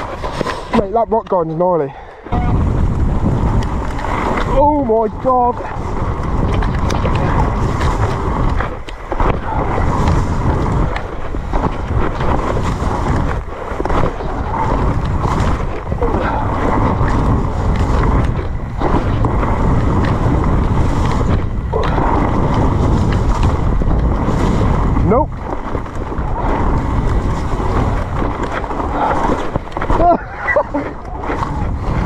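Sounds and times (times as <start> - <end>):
wind buffeting microphone: 0.0 - 32.0
bike knocks and rattles: 5.6 - 32.0.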